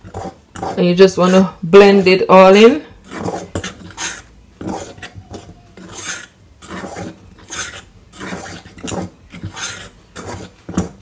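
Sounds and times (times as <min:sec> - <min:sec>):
fork scraping flour in bowl: 0:00.0 - 0:11.0.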